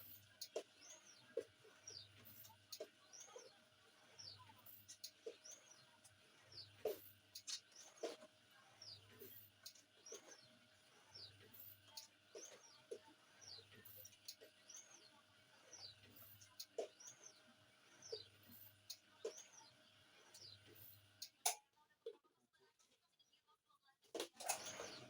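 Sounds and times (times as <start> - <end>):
machine squeaking: 0.0 - 21.4, 24.4 - 25.0.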